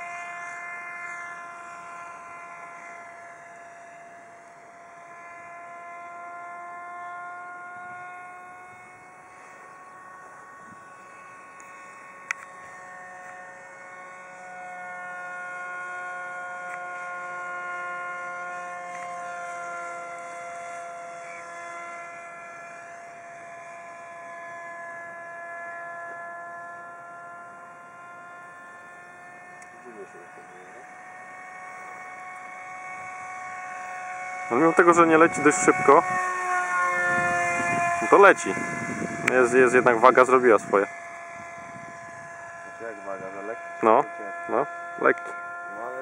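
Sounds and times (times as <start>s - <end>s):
model jet electric motor whining: 0.0s - 46.0s.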